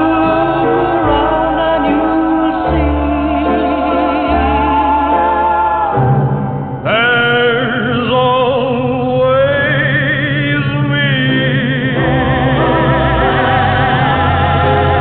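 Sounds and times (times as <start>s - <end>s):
band playing ballad: 0.0s - 15.0s.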